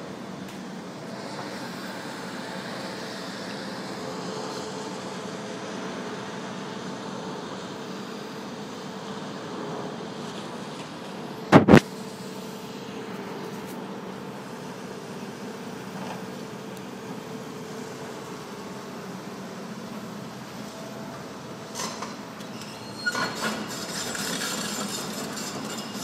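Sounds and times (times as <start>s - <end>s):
excavator diesel engine hum: 0.0s - 26.0s.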